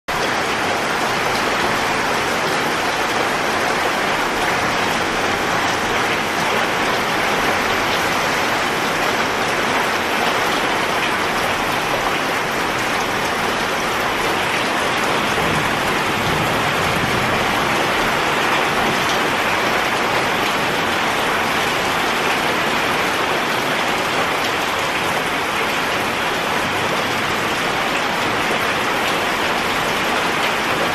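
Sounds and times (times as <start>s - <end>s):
rain on puddle and gravel: 0.1s - 30.9s.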